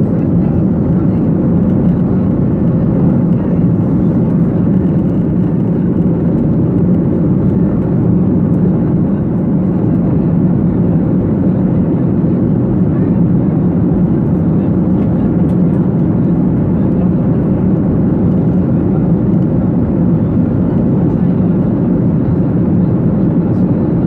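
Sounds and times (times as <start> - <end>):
airliner engines rumbling: 0.0 - 24.0.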